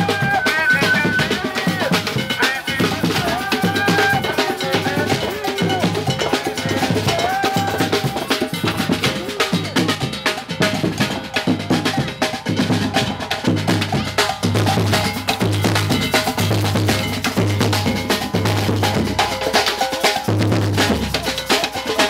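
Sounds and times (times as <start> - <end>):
percussion music with rapid drums: 0.0 - 22.0.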